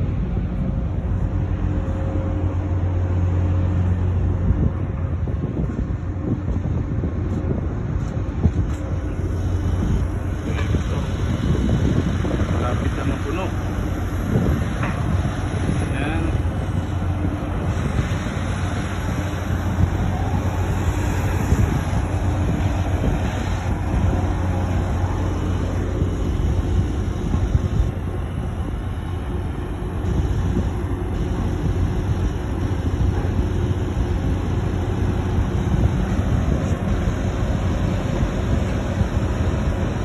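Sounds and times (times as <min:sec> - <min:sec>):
heavy machinery drone: 0:00.0 - 0:40.0.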